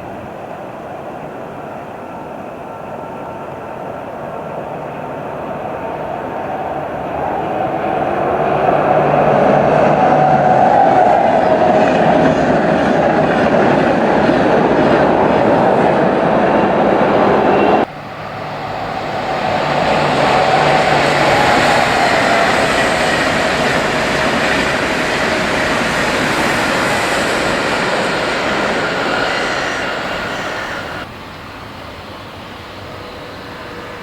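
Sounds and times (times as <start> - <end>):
train rolling rumble: 0.0 - 31.4.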